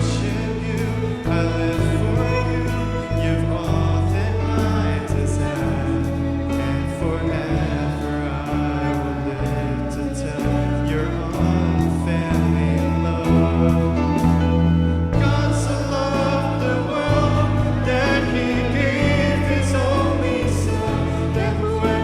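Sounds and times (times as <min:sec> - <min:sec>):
held bass notes: 0:00.0 - 0:22.0
voices singing: 0:00.0 - 0:22.0
worship band music: 0:00.0 - 0:22.0.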